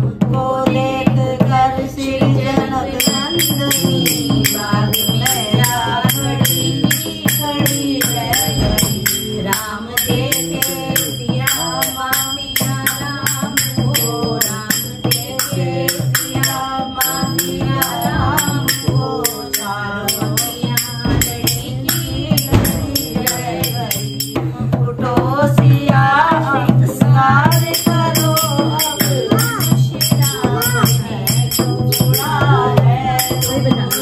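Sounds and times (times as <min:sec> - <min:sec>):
group singing devotional song: 0:00.0 - 0:34.0
hand drum: 0:00.0 - 0:34.0
small hand cymbals: 0:02.9 - 0:24.8, 0:27.3 - 0:34.0.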